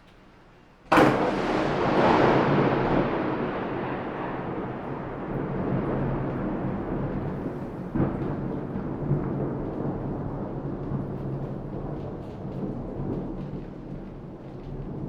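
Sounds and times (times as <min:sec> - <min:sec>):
thunderclap with rolling rumble: 0:00.9 - 0:15.0.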